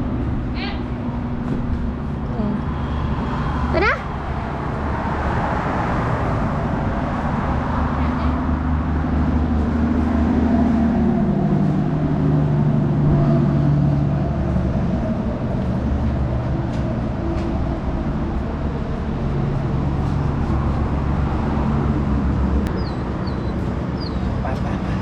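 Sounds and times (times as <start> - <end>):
vehicle engine droning: 0.0 - 25.0.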